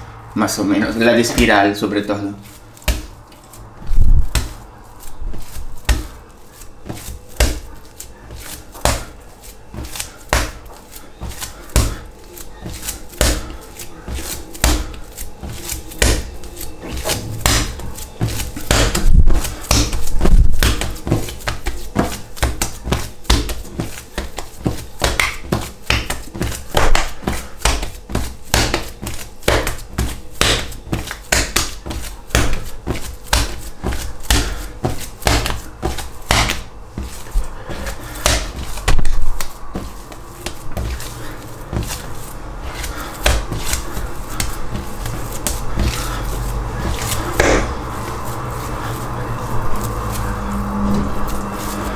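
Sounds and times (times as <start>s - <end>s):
dough slapping on worktop: 2.8s - 4.6s, 5.4s - 50.4s.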